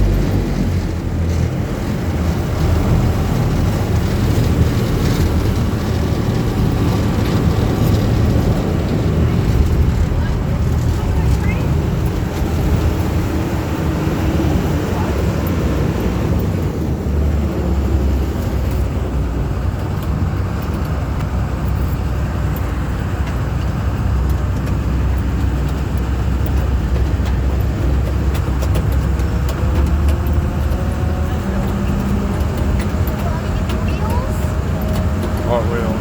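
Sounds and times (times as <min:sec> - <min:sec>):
boat engine rumbling: 0:00.0 - 0:36.0.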